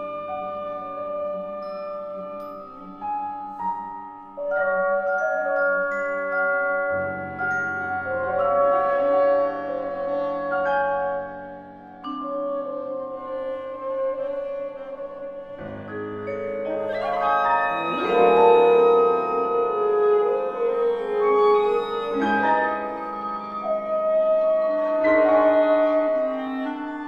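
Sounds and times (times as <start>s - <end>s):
chamber ensemble playing: 0.0s - 27.0s.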